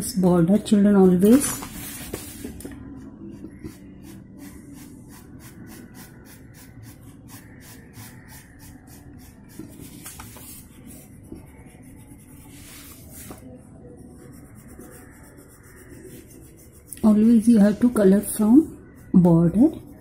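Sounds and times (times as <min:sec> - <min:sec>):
crayon scratching on paper: 0:01.3 - 0:20.0.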